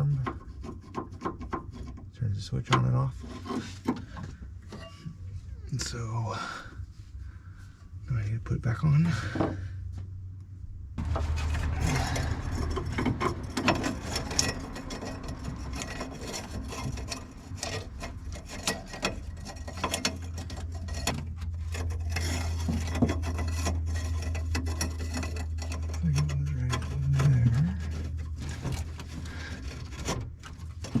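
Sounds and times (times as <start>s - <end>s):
hand tools scraping and clicking: 0.0s - 5.2s, 11.0s - 31.0s
steady low hum: 0.0s - 31.0s.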